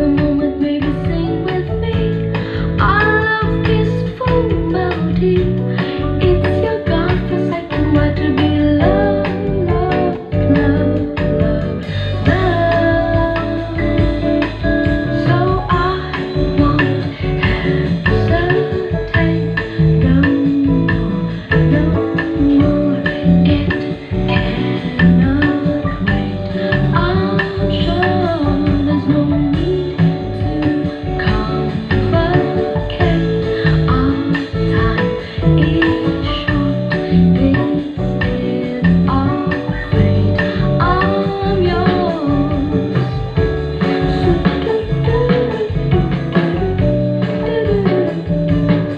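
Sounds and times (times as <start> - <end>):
song with singing and guitar: 0.0 - 48.9.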